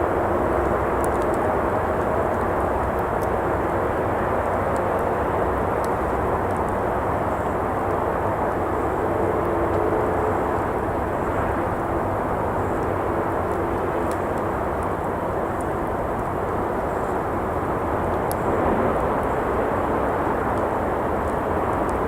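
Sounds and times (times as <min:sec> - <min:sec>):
campfire crackles: 0:00.0 - 0:22.0
faint engine hum: 0:00.0 - 0:22.0
road traffic roar: 0:00.0 - 0:22.0.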